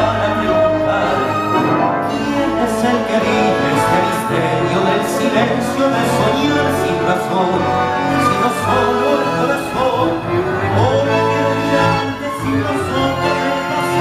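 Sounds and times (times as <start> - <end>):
tango orchestra playing: 0.0 - 14.0.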